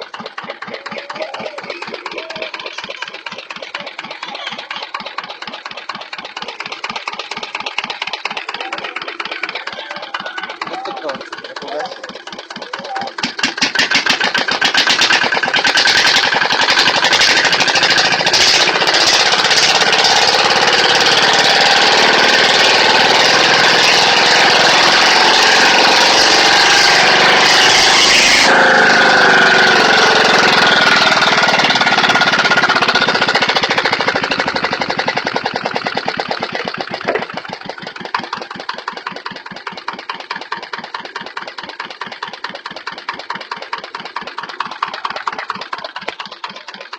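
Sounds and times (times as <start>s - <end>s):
diesel engine revving and knocking: 0.0s - 46.9s.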